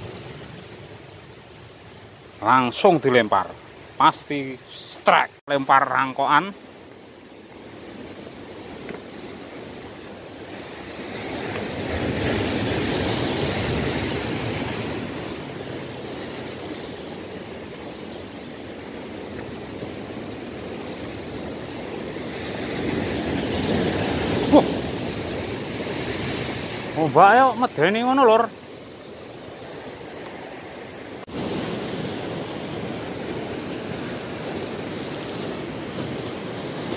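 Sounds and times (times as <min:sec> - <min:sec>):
sea waves breaking among boulders: 0:00.0 - 0:36.9.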